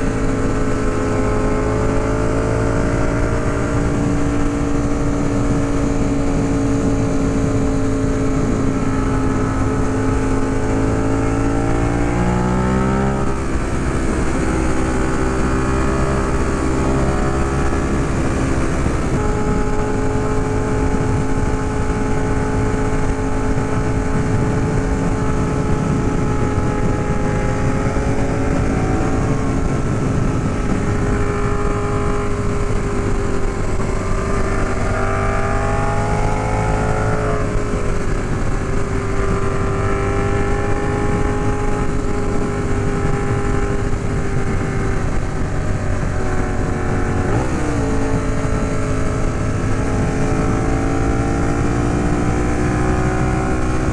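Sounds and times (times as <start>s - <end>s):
motorcycle engine cruising: 0.0s - 53.9s
wind rushing: 0.0s - 53.9s.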